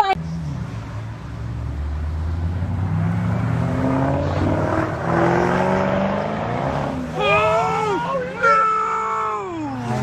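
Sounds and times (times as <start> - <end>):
car engine revving: 0.2 - 8.5.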